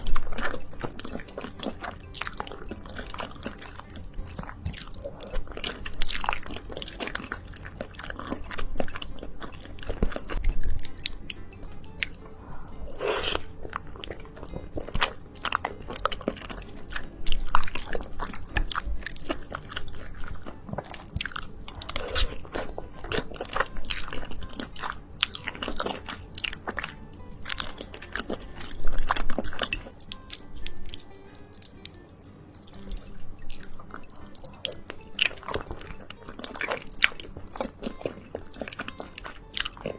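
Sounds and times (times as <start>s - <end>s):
chewing and biting pasta: 0.0s - 39.9s.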